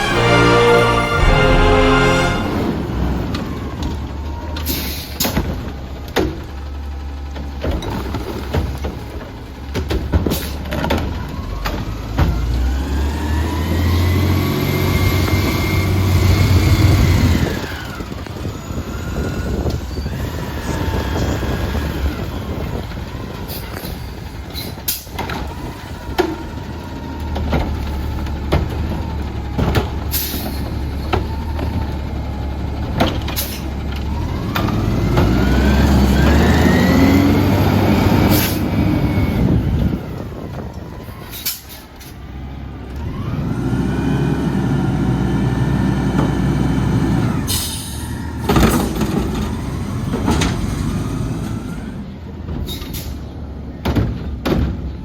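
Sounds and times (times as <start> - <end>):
garbage truck engine revving: 0.0 - 8.4, 11.6 - 41.1, 42.3 - 52.2.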